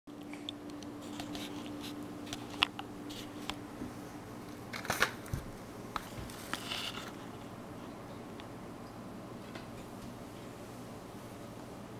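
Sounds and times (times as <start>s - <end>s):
faint steady hum: 0.1s - 11.9s.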